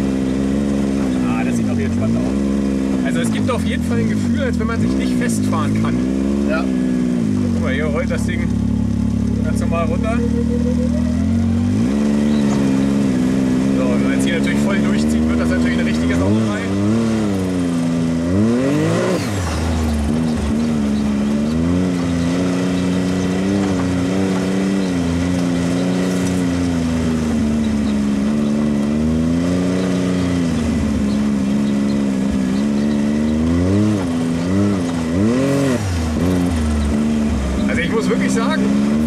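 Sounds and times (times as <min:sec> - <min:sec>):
engine revving hard off-road: 0:00.0 - 0:39.0.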